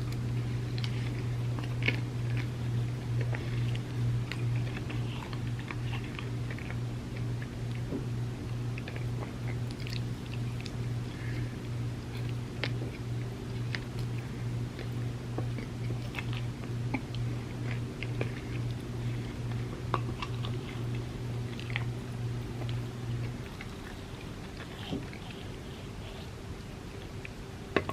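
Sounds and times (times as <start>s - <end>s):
chewing with small crunches: 0.0s - 27.9s
low hum: 0.0s - 27.9s.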